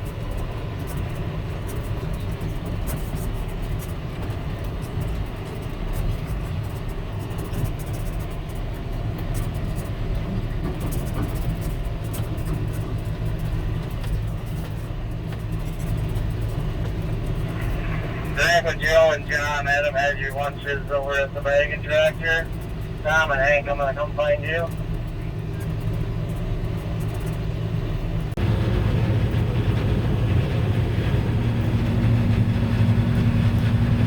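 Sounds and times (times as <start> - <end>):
tractor engine running under load: 0.0 - 34.0.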